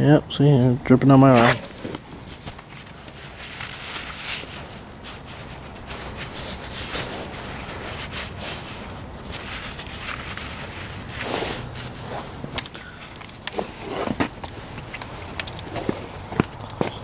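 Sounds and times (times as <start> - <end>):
soft rustling and scuffing: 1.2 - 12.7, 13.4 - 17.0.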